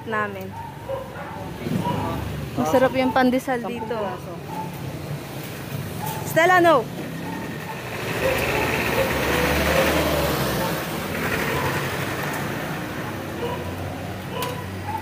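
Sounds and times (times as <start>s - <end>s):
street noise: 0.0s - 15.0s
vehicle engine humming: 0.0s - 15.0s.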